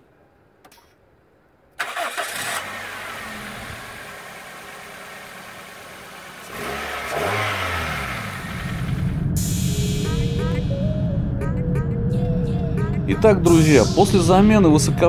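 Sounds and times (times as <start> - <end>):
car engine starting and idling: 1.8 - 15.0.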